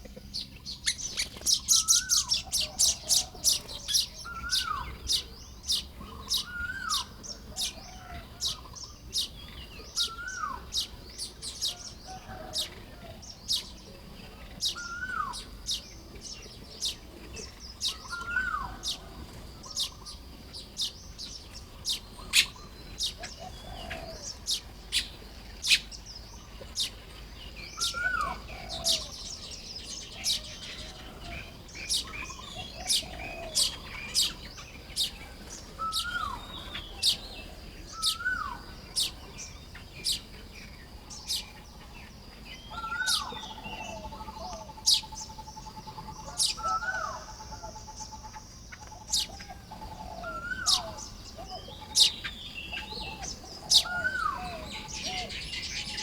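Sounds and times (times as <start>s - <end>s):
birds chattering: 0.0s - 56.0s.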